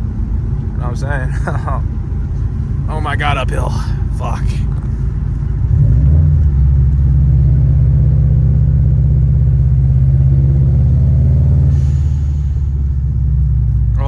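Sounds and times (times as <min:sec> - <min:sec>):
car engine pulling uphill: 0:00.0 - 0:14.0.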